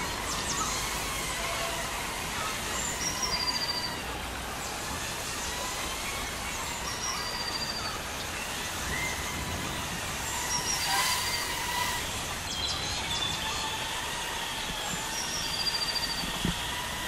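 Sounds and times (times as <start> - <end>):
drone propellers whirring: 0.0 - 17.0.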